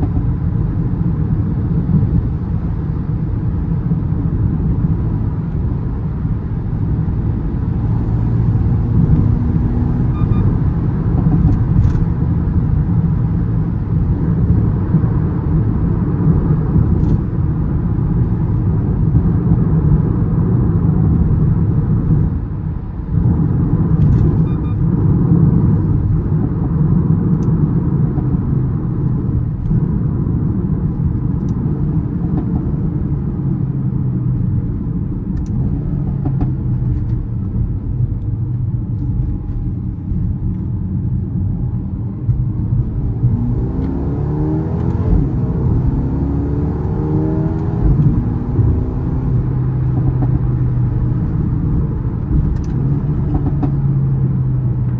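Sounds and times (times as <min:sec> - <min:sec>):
car engine and exhaust accelerating: 0:00.0 - 0:54.9.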